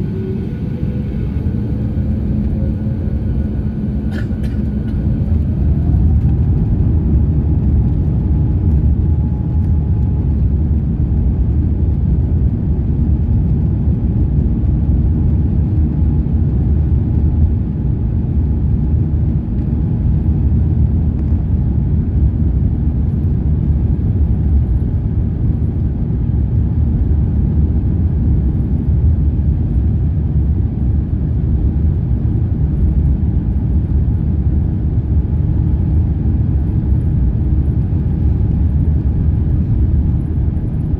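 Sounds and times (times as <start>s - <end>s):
jet engine rumble in cabin: 0.0s - 40.9s.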